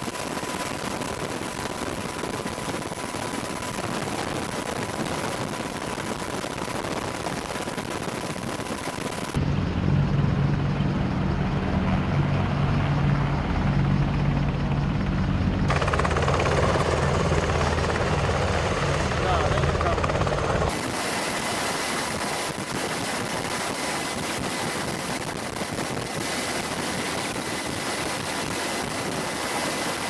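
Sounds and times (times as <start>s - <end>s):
helicopter turbine and rotor noise: 0.0s - 30.0s.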